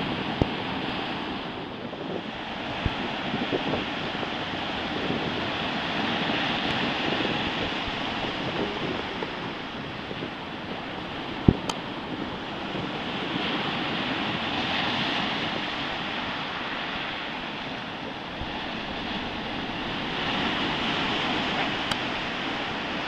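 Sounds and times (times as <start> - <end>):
waves breaking: 0.0 - 23.0
wind on microphone: 0.0 - 23.0.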